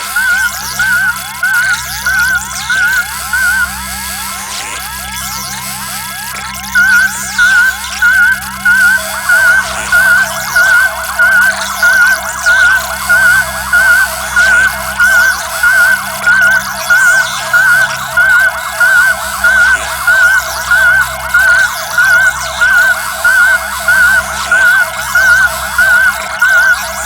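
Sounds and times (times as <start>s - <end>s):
harsh electronic siren warble: 0.0s - 27.0s.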